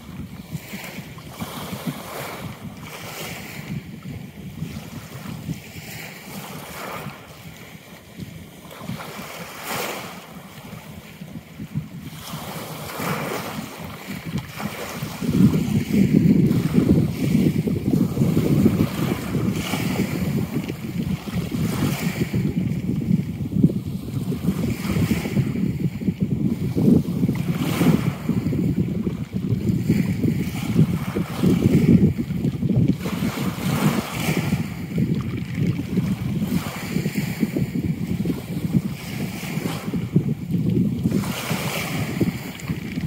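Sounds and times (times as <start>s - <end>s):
sea waves: 0.0s - 43.0s
wind buffeting microphone: 0.0s - 43.0s.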